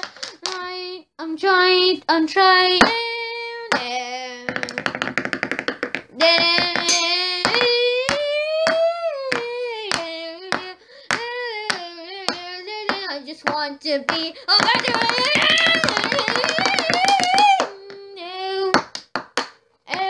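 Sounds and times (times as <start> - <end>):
high voice singing wordless melody: 0.0 - 5.1, 6.1 - 18.9.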